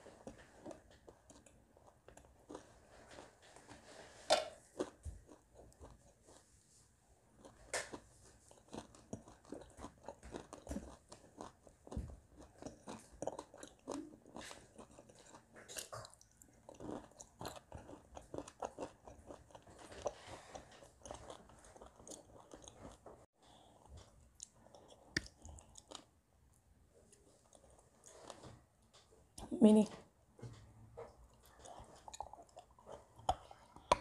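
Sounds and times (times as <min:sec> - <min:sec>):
crunching and chewing clay: 0:00.0 - 0:03.8, 0:04.6 - 0:06.6, 0:07.3 - 0:26.2, 0:31.0 - 0:34.0.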